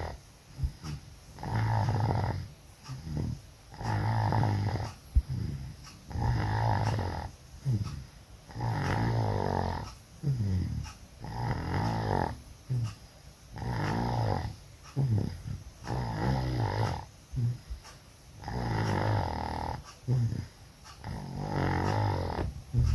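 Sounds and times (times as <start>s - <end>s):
person snoring loudly: 0.0s - 12.9s, 13.5s - 17.7s, 18.4s - 22.9s
soft breath: 0.0s - 22.9s.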